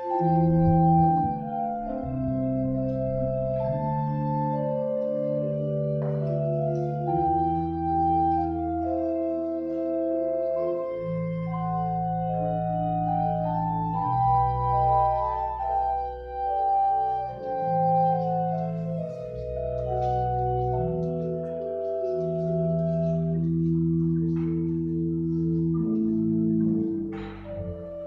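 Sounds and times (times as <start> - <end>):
church organ chords: 0.0 - 28.0.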